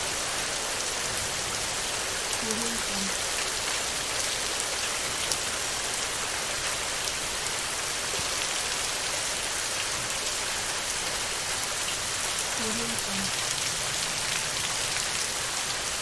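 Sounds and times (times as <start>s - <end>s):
heavy rain on a metal roof: 0.0s - 16.0s.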